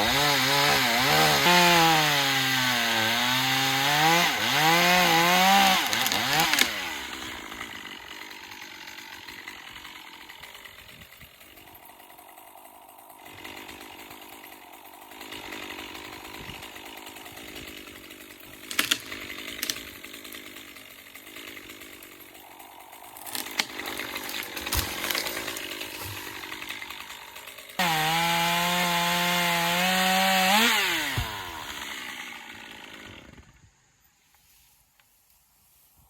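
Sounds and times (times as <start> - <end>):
pole saw cutting branch: 0.0 - 33.4
wood cracking: 0.0 - 33.4.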